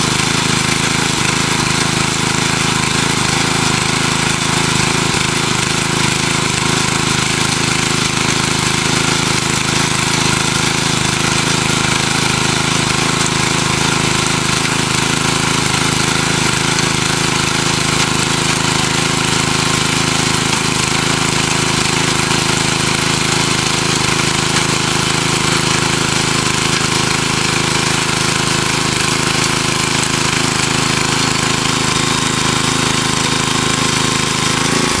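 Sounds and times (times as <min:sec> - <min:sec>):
rototiller engine running: 0:00.0 - 0:35.0
tines churning soil: 0:00.0 - 0:35.0.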